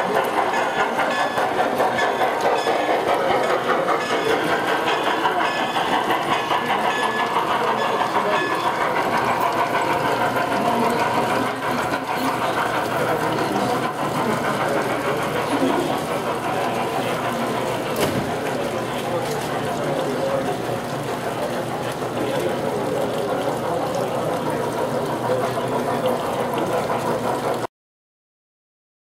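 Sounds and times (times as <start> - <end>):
crowd talking: 0.0 - 27.7
model trains running: 0.0 - 27.7.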